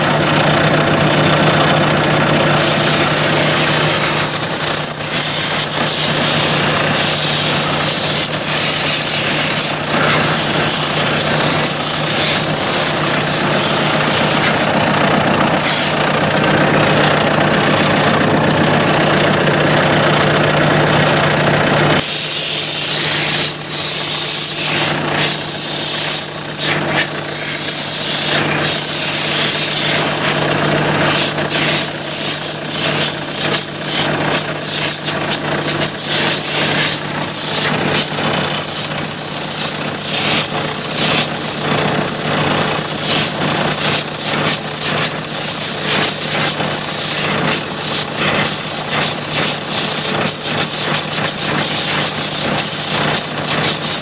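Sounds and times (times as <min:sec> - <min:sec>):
compressed air hissing: 0:00.0 - 0:00.3, 0:02.6 - 0:14.7, 0:15.6 - 0:16.0, 0:22.0 - 0:54.0
steady motor hum: 0:00.0 - 0:54.0.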